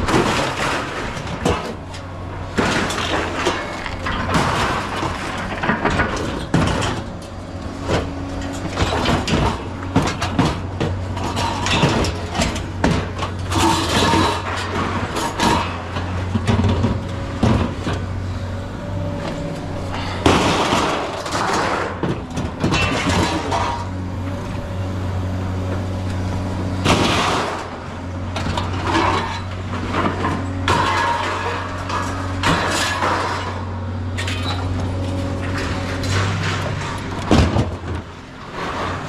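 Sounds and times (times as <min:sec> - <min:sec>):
low engine hum: 0:00.0 - 0:39.0
scrap metal clanking and banging: 0:00.0 - 0:39.0.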